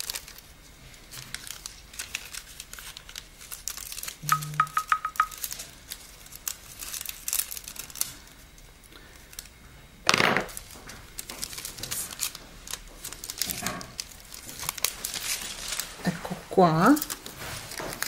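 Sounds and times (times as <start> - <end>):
foil crinkling: 0.0 - 4.2, 5.3 - 9.5, 10.5 - 18.0.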